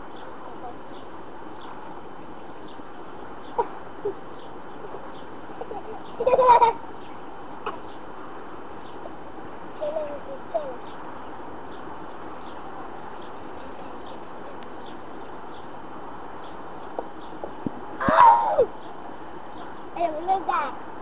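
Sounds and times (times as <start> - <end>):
birds chirping: 0.0 - 21.0
steady background hiss: 0.0 - 21.0.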